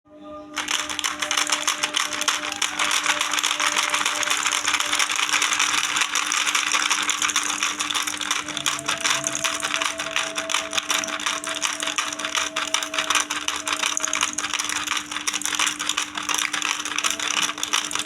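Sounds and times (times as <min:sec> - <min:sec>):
clatter of small plastic pieces: 0:00.6 - 0:18.0
toy motor hum: 0:00.6 - 0:18.0.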